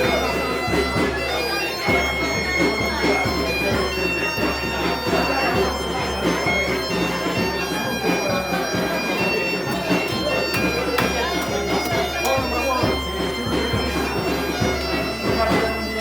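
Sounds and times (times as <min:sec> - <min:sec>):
bagpipe playing a lively tune: 0:00.0 - 0:16.0
drum beating: 0:00.0 - 0:16.0.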